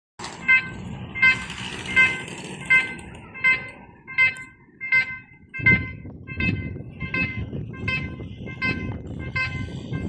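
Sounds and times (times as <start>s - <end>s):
level crossing bell dinging: 0.5s - 9.7s.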